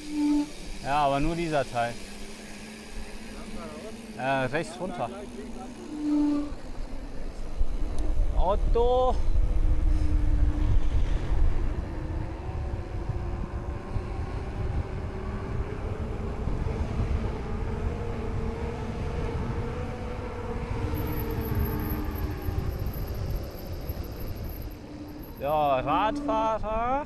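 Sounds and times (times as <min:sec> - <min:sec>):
electric bike motor whine: 0:00.0 - 0:27.0.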